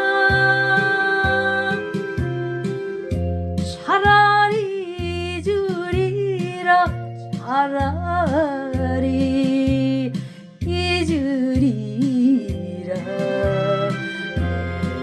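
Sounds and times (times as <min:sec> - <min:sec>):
bouncing bass line: 0:00.0 - 0:15.0
trot song with vibrato vocals: 0:00.0 - 0:15.0.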